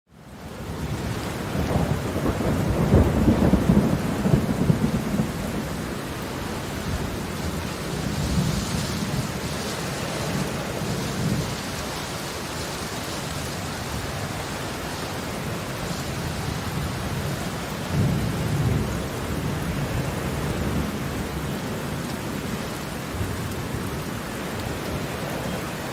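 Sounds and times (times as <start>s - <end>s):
heavy rain: 0.1s - 25.9s
rolling thunder rumble: 0.8s - 12.2s, 15.4s - 25.9s.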